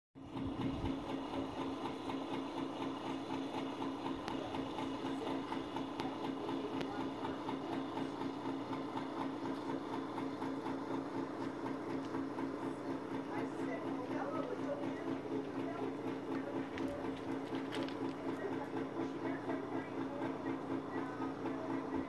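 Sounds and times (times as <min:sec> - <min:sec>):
pulsing motor hum: 0:00.2 - 0:22.0.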